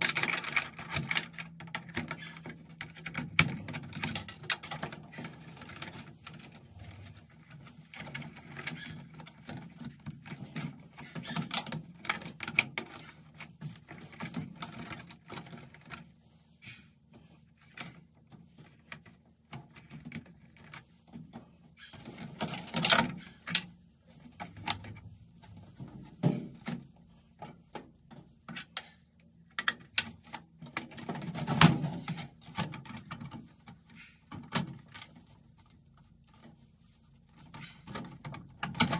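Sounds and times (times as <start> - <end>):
rustling of wires: 0.0 - 38.9.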